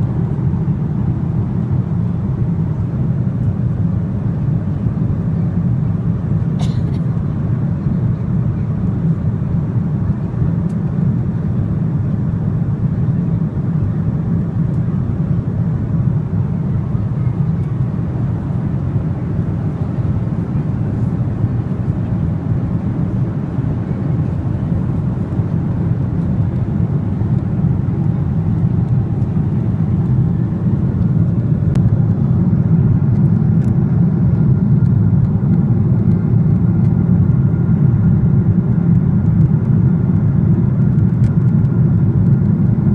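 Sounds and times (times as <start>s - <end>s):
airliner engines and airflow rumble: 0.0s - 42.9s.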